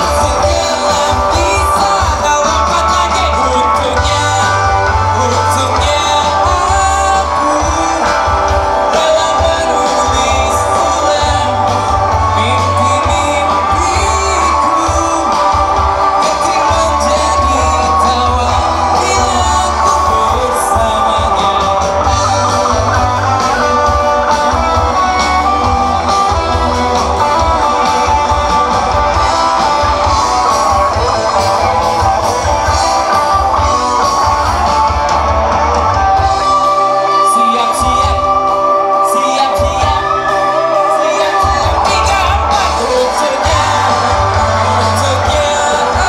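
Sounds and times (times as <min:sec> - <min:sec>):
man singing lead vocal: 0:00.0 - 0:46.0
pop-rock band playing: 0:00.0 - 0:46.0.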